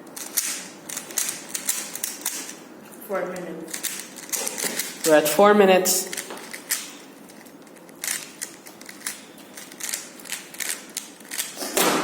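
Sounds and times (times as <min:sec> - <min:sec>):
puzzle cube clicking and rattling: 0:00.1 - 0:02.6, 0:03.4 - 0:05.1, 0:06.1 - 0:11.6.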